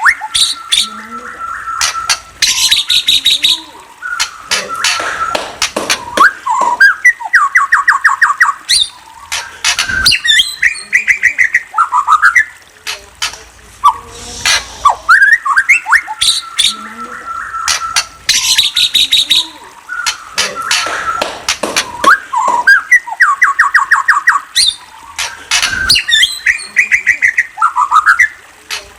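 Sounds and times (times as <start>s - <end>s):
bird chirping and squawking: 0.0s - 28.8s.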